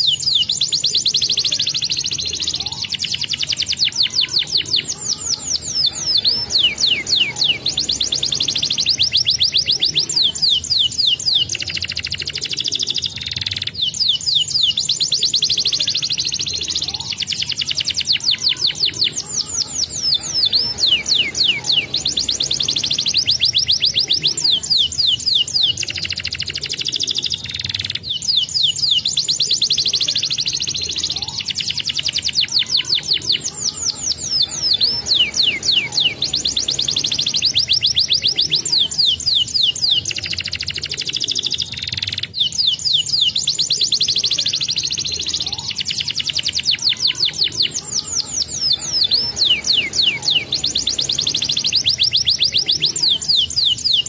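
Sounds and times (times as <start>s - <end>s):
canary trilling: 0.0s - 54.0s.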